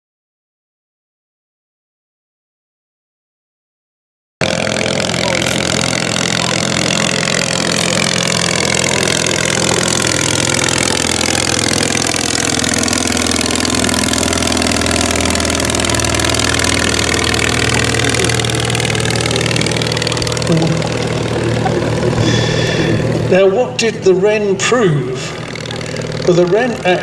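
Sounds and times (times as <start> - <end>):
small aircraft engine running: 4.4 - 27.0.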